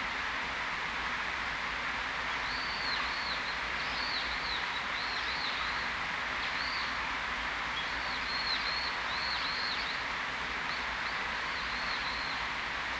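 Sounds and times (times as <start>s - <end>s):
steady background hiss: 0.0s - 12.9s.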